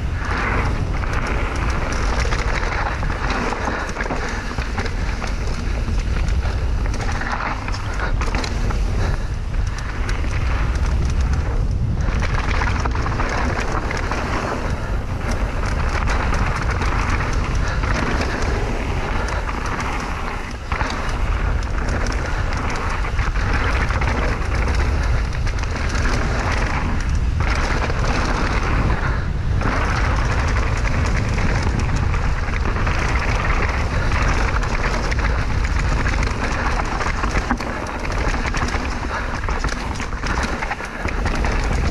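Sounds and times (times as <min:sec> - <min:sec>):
bike rattling: 0:00.0 - 0:41.9
bike tyres rumbling on dirt: 0:00.0 - 0:41.9
wind buffeting microphone: 0:00.0 - 0:41.9.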